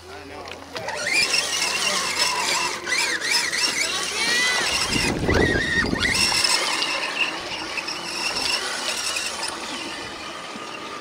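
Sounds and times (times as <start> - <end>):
toy truck electric motor whine: 0.7 - 11.0.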